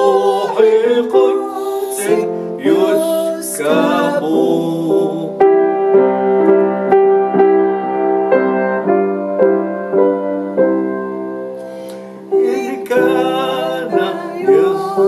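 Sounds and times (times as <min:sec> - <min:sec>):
slow piano playing: 0:00.0 - 0:15.0.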